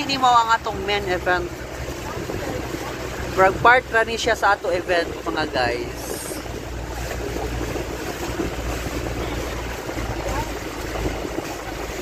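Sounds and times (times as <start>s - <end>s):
boat engine running: 0.0s - 12.0s
water rushing past hull: 0.0s - 12.0s.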